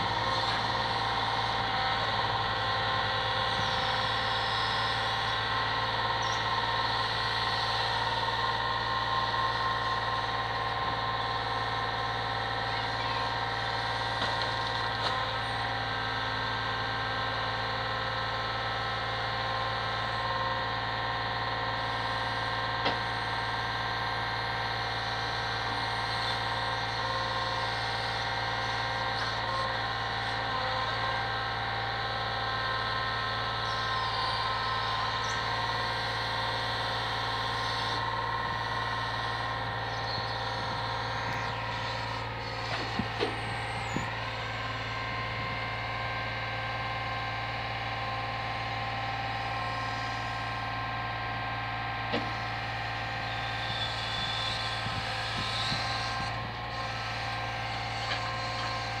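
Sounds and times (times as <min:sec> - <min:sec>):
diesel engine running: 0:00.0 - 0:59.0
hydraulic whine: 0:00.0 - 0:59.0.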